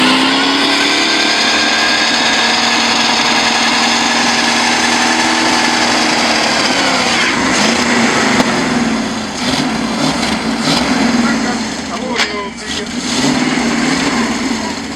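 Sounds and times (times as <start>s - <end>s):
car engine at high revs: 0.0s - 14.9s
tyres spinning: 0.0s - 14.9s.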